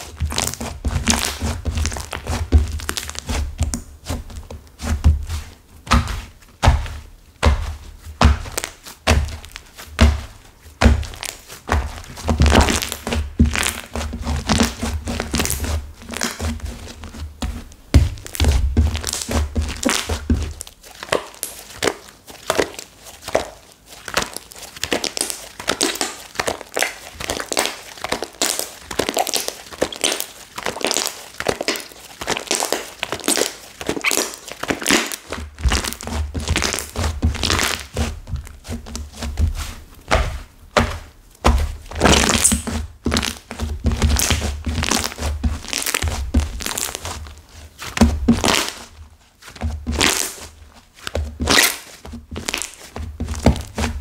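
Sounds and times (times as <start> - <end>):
slime crackling and crunching: 0.0 - 17.1, 18.0 - 54.0.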